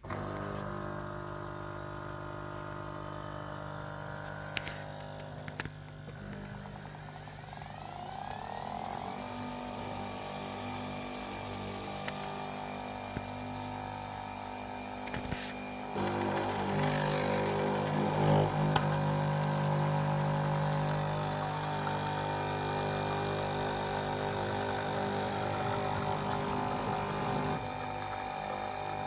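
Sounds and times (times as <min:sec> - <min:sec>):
coffee machine pump humming: 0:00.0 - 0:29.0.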